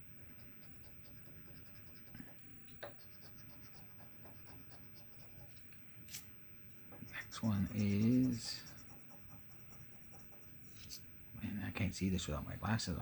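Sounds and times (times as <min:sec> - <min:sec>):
scratching on lottery ticket: 0:00.0 - 0:11.5.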